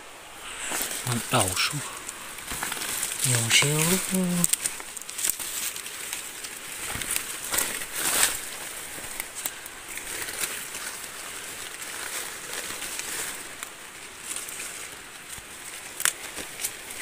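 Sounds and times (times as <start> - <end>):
rustling and crackling dry leaves: 0.0 - 17.0.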